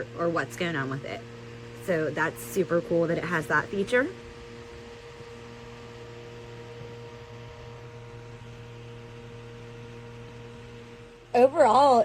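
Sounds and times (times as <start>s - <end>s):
small fan humming: 0.0s - 12.0s.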